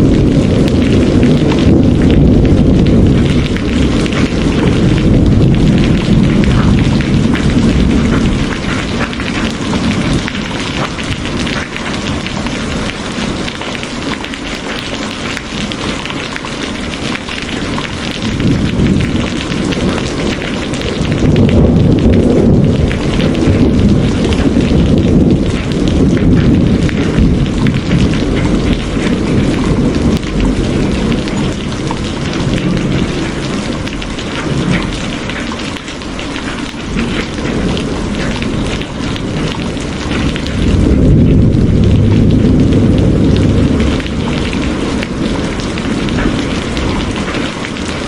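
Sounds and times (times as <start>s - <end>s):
rolling thunder rumble: 0.0s - 48.0s
steady rain falling: 0.0s - 48.0s.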